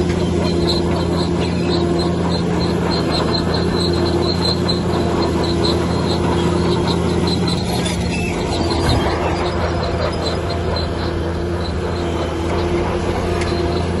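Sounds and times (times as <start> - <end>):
heavy diesel engine running: 0.0 - 14.0
high-pitched chirps or squeaks: 0.2 - 14.0.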